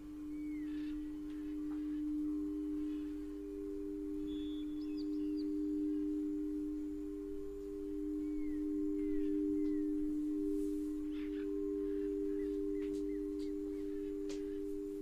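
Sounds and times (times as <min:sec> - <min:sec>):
birds chirping and whistling: 0:00.0 - 0:15.0
singing bowls drone: 0:00.0 - 0:15.0.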